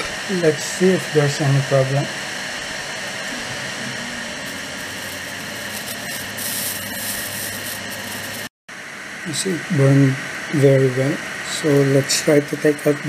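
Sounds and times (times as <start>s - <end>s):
cooling fan whirring: 0.0s - 13.0s
faint motor whine: 0.0s - 13.0s.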